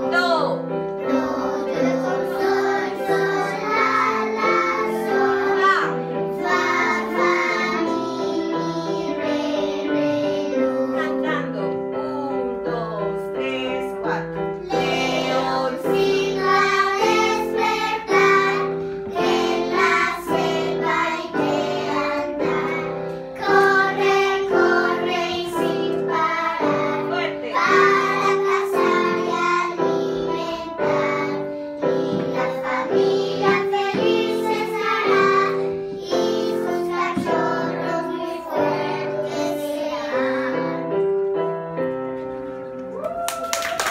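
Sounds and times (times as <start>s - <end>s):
keyboard accompaniment: 0.0s - 43.0s
children singing: 1.0s - 11.0s, 14.6s - 41.0s.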